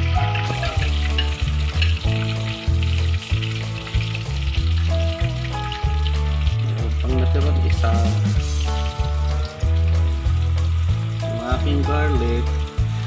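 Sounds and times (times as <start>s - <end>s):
background music with bass line: 0.0s - 13.0s
chicken deep-frying in oil: 0.0s - 13.0s.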